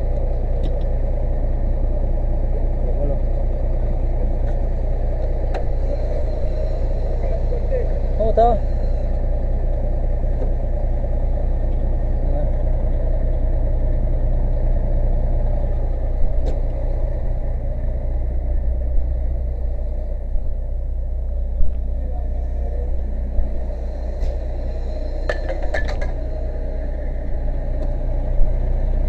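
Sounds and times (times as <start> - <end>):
engine idling low rumble: 0.0 - 29.0.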